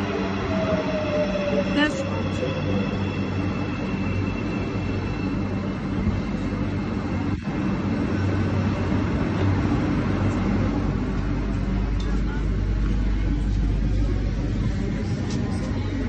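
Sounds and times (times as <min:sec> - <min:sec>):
train rumbling in tunnel: 0:00.0 - 0:16.0.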